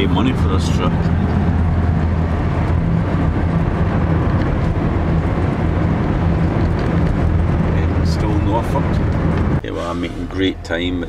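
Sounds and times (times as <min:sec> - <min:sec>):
vehicle engine and road drone: 0:00.0 - 0:11.0.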